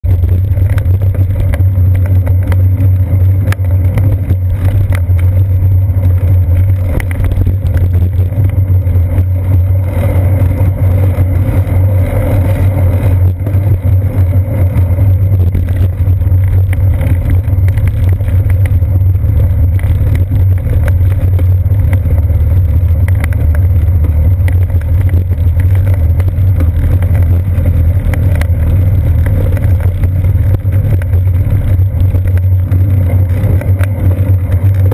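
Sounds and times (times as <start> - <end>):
bicycle rumble: 0.0 - 34.9
small clicks and knocks: 0.2 - 34.9.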